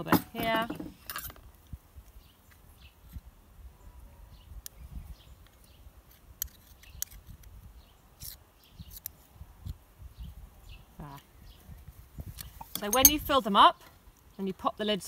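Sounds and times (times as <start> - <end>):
faint birdsong: 0.4 - 15.0.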